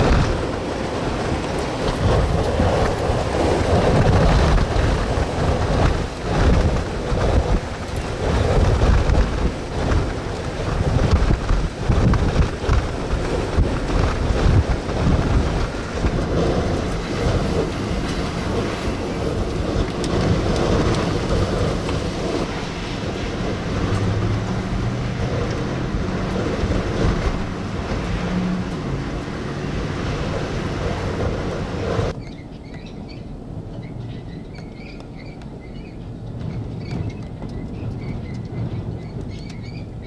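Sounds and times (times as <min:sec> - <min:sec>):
strong wind buffeting microphone: 0:00.0 - 0:40.0
ticks of windblown debris: 0:00.0 - 0:40.0.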